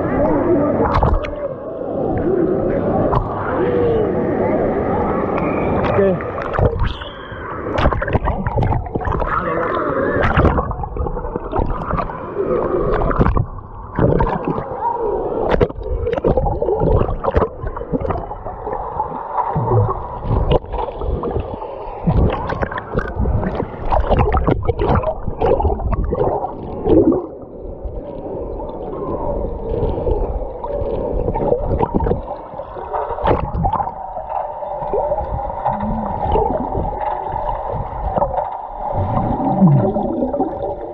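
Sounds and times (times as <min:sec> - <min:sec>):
pool water sloshing and gurgling: 0:00.0 - 0:40.9.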